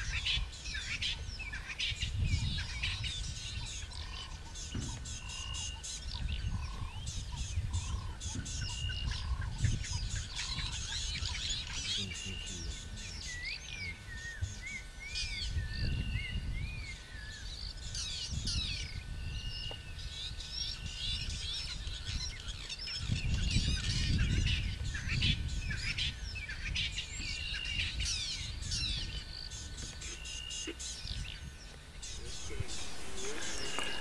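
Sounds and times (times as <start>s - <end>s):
birds chirping and singing: 0.0s - 34.0s.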